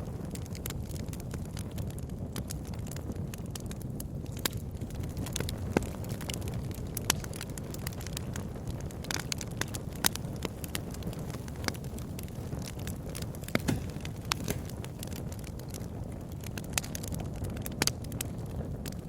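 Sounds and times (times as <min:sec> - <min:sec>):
bonfire crackling: 0:00.0 - 0:19.0
low rush of flames: 0:00.0 - 0:19.0
sharp pops from fire: 0:00.0 - 0:19.0.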